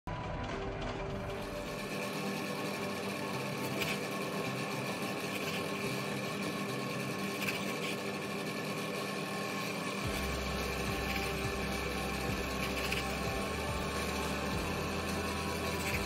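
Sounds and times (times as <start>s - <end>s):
background music with held tones: 0.1s - 16.0s.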